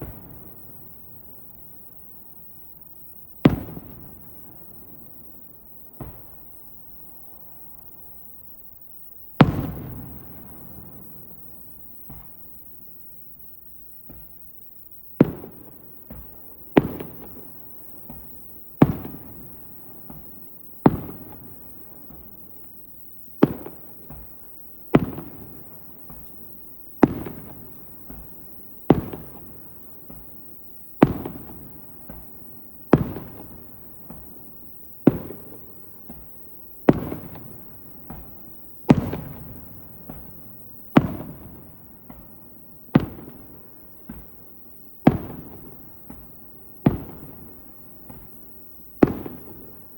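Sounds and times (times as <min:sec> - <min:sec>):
firework shells bursting with echo: 0:00.0 - 0:07.4, 0:09.3 - 0:13.0, 0:13.9 - 0:49.9
small firework pops: 0:00.0 - 0:49.9.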